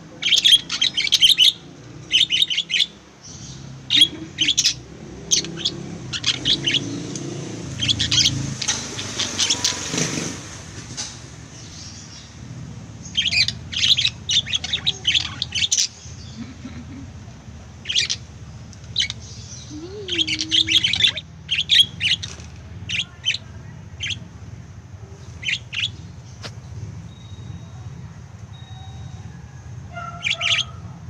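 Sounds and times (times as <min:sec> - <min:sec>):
lovebirds chirping: 0:00.0 - 0:10.2, 0:11.4 - 0:31.0.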